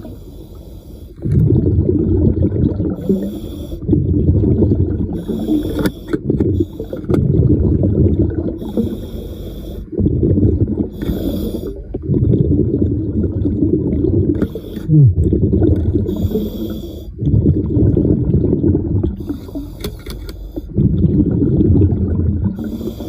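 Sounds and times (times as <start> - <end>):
exhaled bubbles rumbling: 0.0 - 0.5, 1.1 - 23.0.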